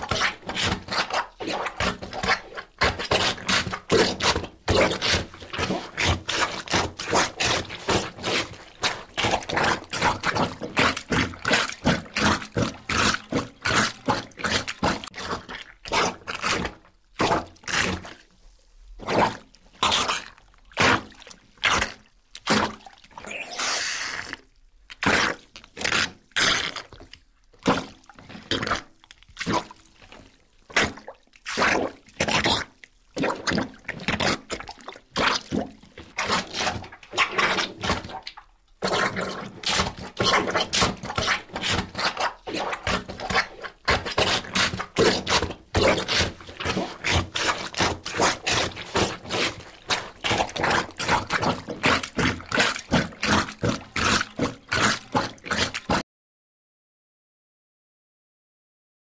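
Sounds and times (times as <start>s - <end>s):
wet sucking and slurping: 0.0s - 18.3s, 19.0s - 56.0s.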